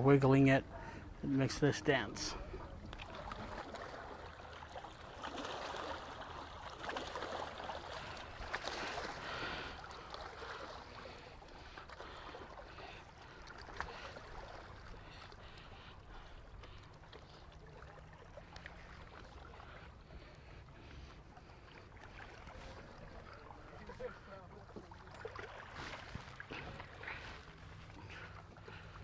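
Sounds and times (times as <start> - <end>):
water lapping and splashing: 0.0 - 29.0.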